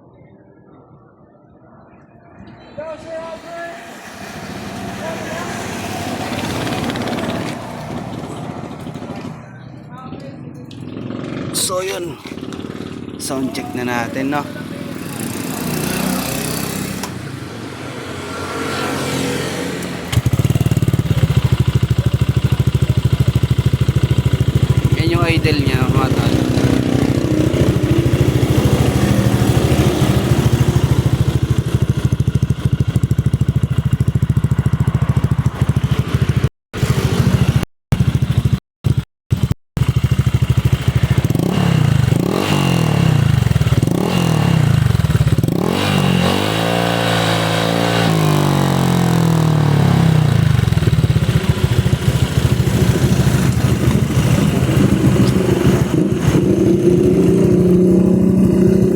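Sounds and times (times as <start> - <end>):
scooter engine idling and revving: 3.2 - 58.9.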